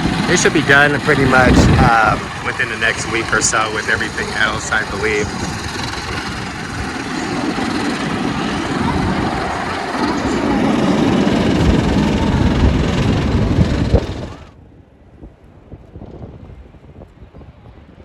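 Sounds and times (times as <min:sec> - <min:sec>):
roller coaster rushing rumble: 0:00.0 - 0:14.6.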